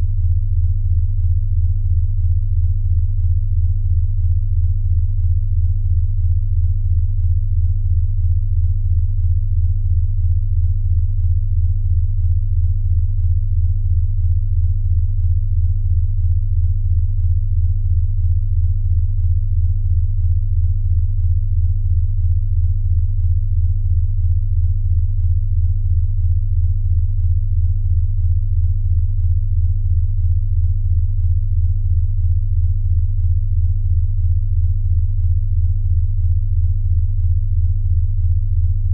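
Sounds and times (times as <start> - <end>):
pulsing low sine tone: 0.0 - 38.9.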